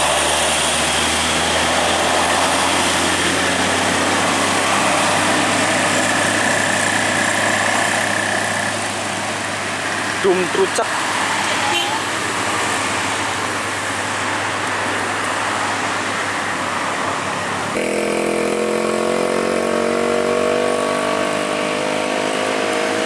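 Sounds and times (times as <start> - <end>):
diesel truck engine droning: 0.0 - 23.0
traffic rumble: 0.0 - 23.0.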